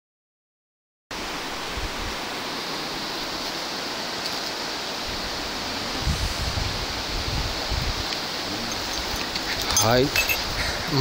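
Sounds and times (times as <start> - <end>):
stream rushing over stones: 1.1 - 11.0.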